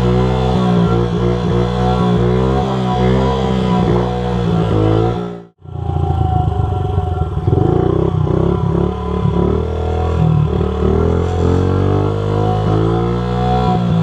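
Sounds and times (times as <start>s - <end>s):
small motorbike engine revving: 0.0s - 14.0s.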